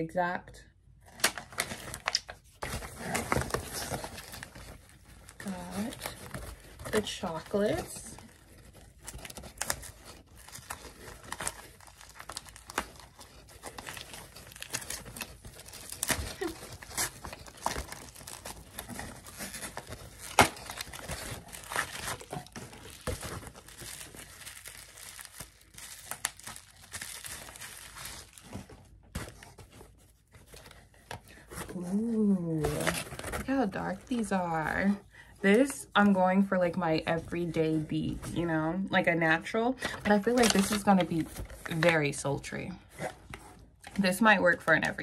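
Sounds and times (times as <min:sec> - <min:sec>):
paper packaging crinkling and tearing: 0:01.0 - 0:45.0.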